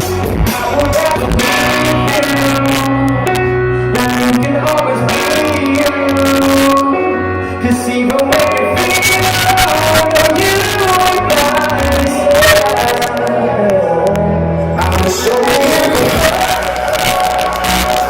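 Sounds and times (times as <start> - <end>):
live pop-rock band: 0.0 - 18.0.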